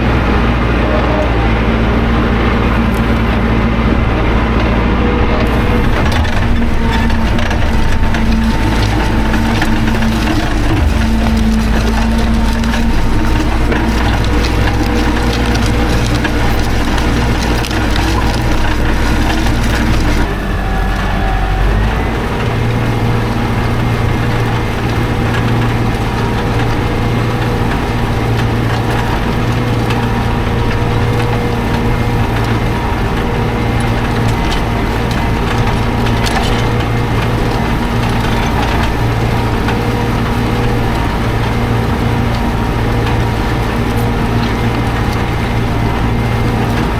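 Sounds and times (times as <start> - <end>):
tractor engine running: 0.0 - 46.9
rough clattering: 2.3 - 46.9.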